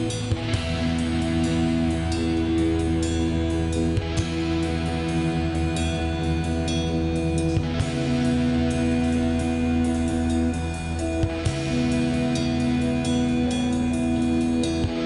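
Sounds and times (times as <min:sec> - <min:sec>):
electric guitar rock music: 0:00.0 - 0:15.0.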